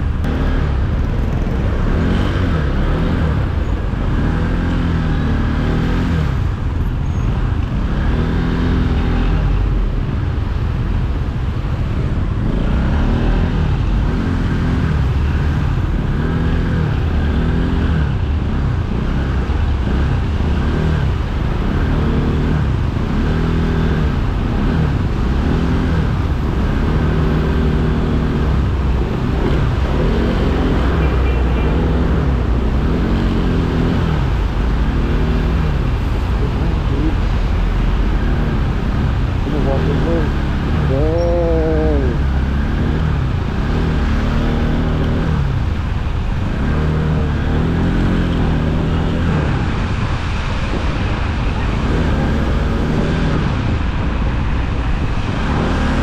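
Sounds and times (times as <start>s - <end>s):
road noise: 0.0s - 56.0s
vehicle engine revving: 0.0s - 56.0s.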